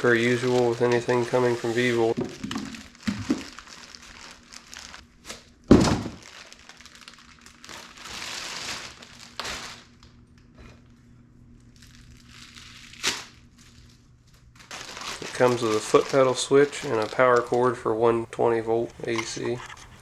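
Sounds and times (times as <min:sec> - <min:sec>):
packaging rustling: 0:00.0 - 0:10.1, 0:11.8 - 0:18.2.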